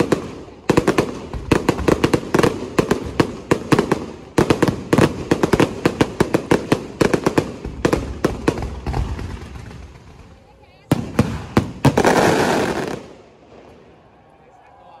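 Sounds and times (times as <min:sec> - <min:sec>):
fireworks bangs: 0:00.0 - 0:14.1.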